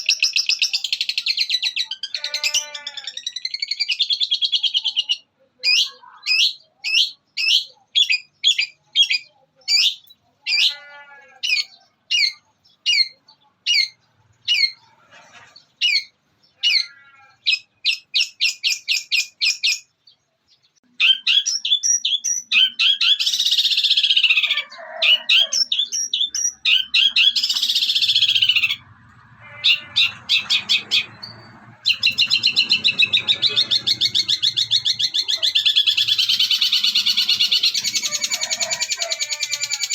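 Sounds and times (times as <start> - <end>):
shrike singing mimicked calls: 0.0 - 15.0, 15.7 - 19.9, 20.8 - 39.9.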